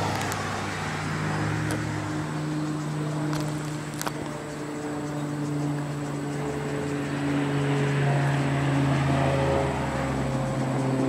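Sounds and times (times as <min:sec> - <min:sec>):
low vehicle rumble: 0:00.0 - 0:11.0
steady mechanical hum: 0:00.0 - 0:11.0.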